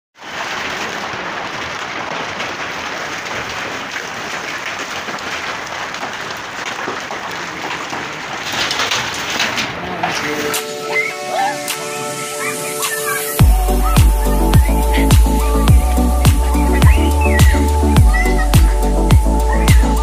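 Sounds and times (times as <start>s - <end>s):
heavy rain pattering: 0.2s - 20.0s.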